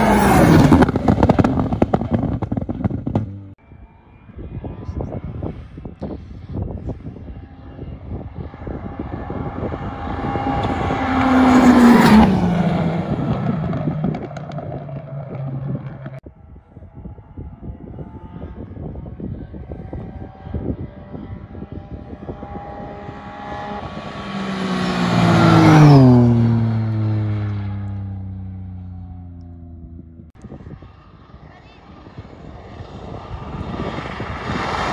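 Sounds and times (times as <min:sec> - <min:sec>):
rally cars passing: 0:00.0 - 0:05.7, 0:06.4 - 0:34.9.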